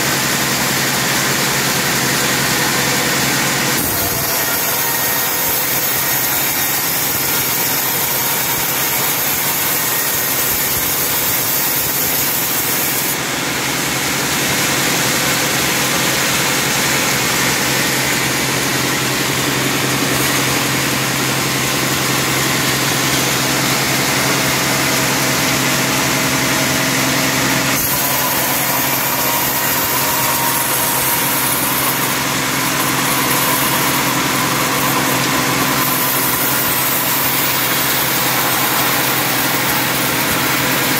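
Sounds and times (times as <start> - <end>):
band sawmill drone: 0.0 - 40.9.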